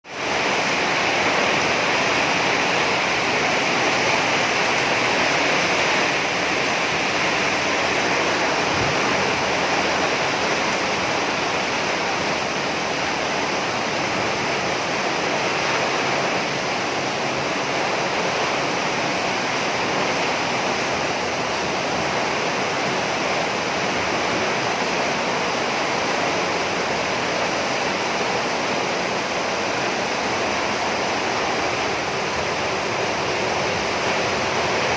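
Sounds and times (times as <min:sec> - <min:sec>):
heavy rain on a roof: 0:00.0 - 0:34.9.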